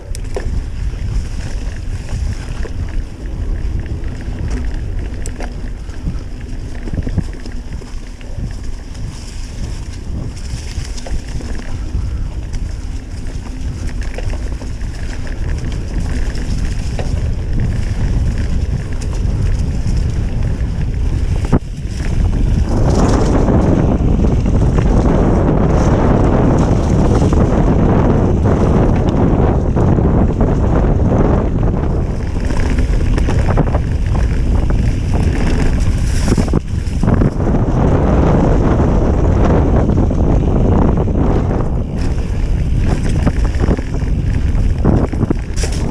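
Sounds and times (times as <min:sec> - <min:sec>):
bike clicks and rattles: 0:00.0 - 0:45.9
tyres rumbling over dirt trail: 0:00.0 - 0:45.9
wind buffeting microphone: 0:00.0 - 0:45.9.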